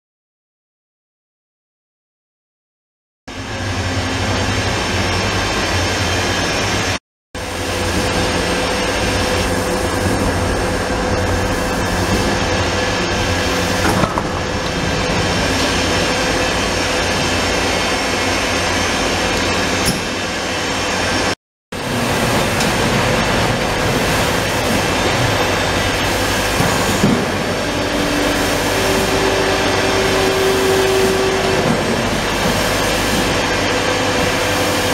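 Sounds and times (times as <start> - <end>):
laser cutting machine humming: 3.4 - 34.9.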